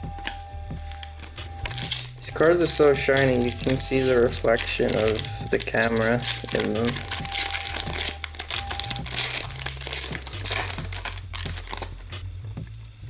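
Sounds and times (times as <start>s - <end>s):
foil wrapper crinkling: 0.0s - 12.2s
cards being handled: 0.0s - 12.9s.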